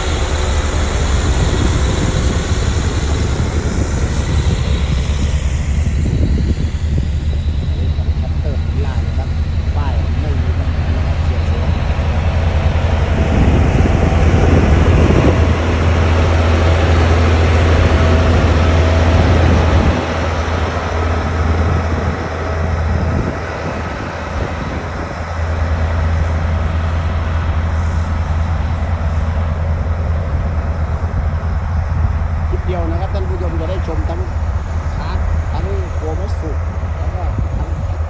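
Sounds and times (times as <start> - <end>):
diesel engine droning: 0.0 - 38.0.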